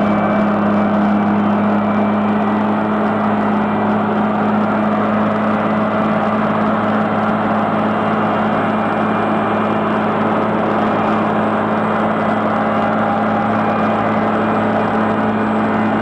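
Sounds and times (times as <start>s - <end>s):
diesel engine running under load: 0.0s - 16.0s
rotor grinding road base: 0.0s - 16.0s.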